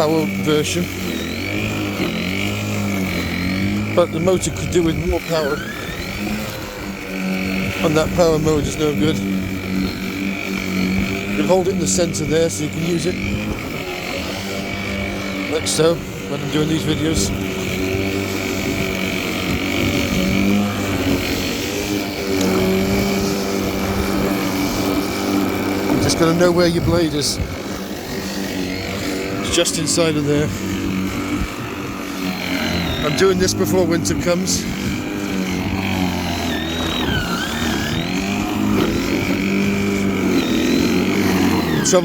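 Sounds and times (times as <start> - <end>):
electric lawnmower cutting grass: 0.0 - 42.0.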